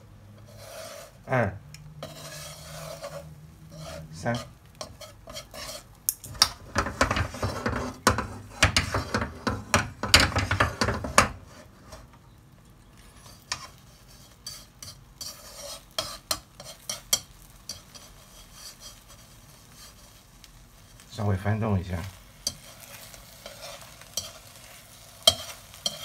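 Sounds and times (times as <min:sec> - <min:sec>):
pan and utensils scraping: 0:00.0 - 0:12.1, 0:12.9 - 0:26.0
faint sizzle: 0:00.0 - 0:26.0.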